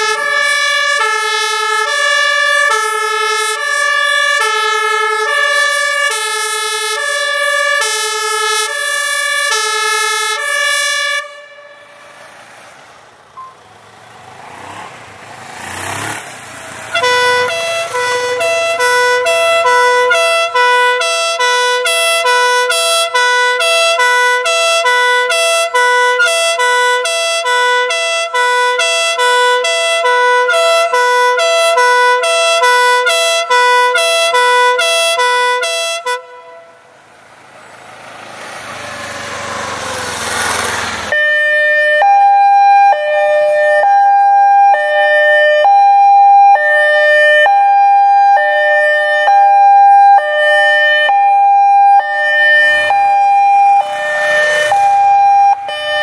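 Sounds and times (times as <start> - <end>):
fast two-tone van siren: 0.0 - 13.6, 16.4 - 56.0
fire engine two-tone siren: 0.0 - 13.9, 16.4 - 56.0.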